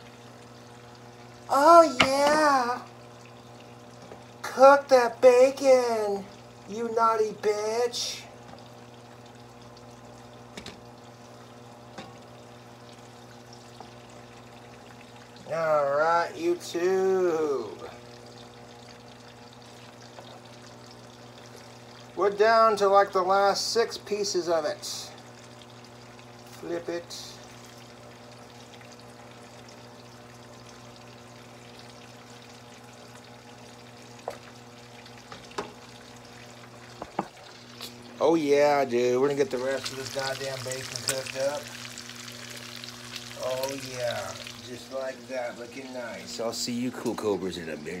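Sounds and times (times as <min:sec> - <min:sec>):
bacon sizzling in a pan: 0:00.0 - 0:47.2
low steady hum: 0:00.0 - 0:48.0.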